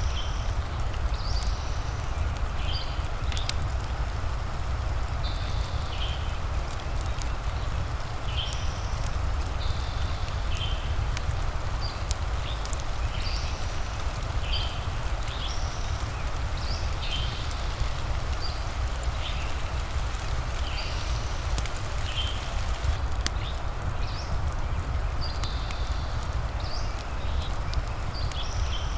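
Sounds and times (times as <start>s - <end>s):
fire crackling and popping: 0.1s - 28.9s
rain rushing: 3.5s - 28.4s.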